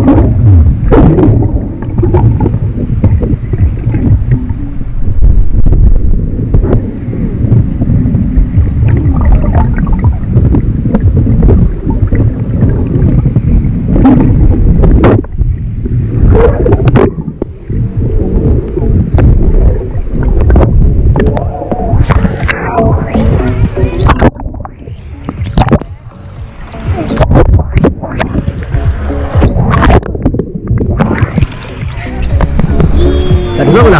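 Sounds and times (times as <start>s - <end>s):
rushing water: 0.0s - 33.9s
wind buffeting microphone: 0.0s - 33.9s.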